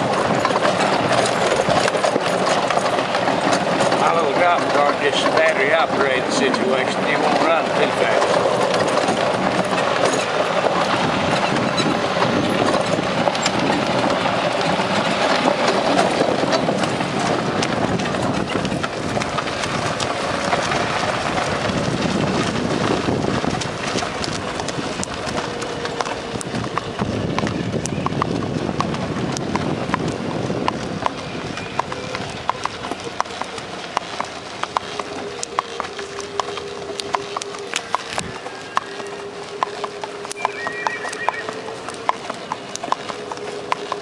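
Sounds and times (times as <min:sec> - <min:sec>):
horse hooves clip-clopping: 0:00.0 - 0:44.0
tyres crunching on gravel: 0:00.0 - 0:44.0.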